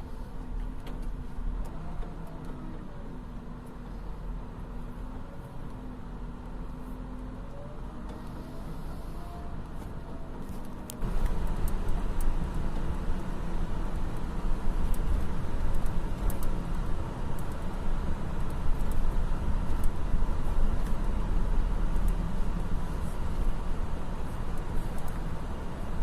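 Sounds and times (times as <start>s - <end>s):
heavy machinery diesel engines: 0.0s - 26.0s.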